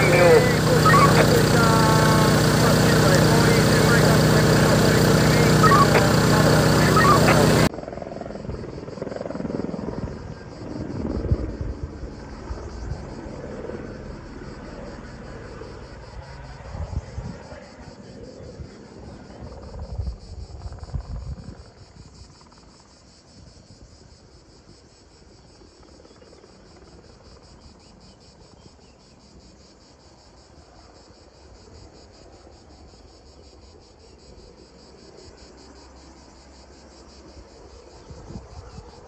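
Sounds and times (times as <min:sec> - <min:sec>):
insect chorus buzzing: 0:00.0 - 0:39.0.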